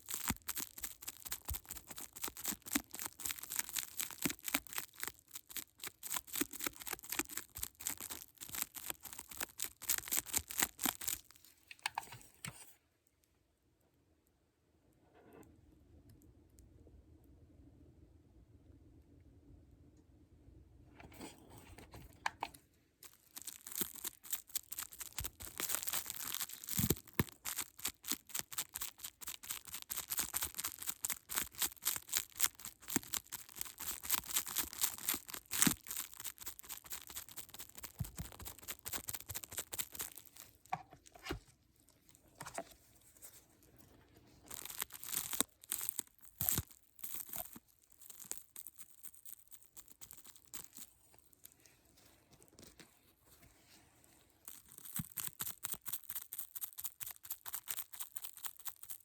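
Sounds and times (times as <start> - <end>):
plastic packaging crackling: 0.0 - 12.7, 21.2 - 52.9, 54.4 - 59.0.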